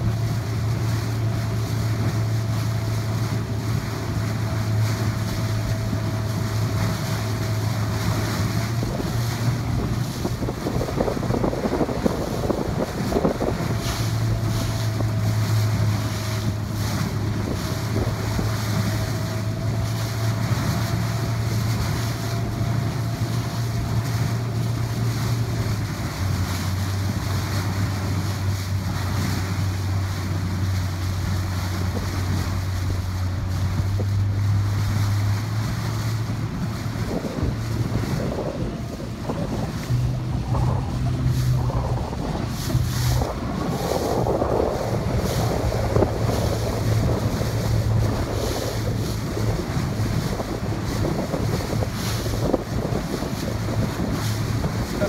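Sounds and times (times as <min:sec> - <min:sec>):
motor hum: 0:00.0 - 0:55.0
water rushing past boat: 0:00.0 - 0:55.0
wind buffeting microphone: 0:00.0 - 0:55.0.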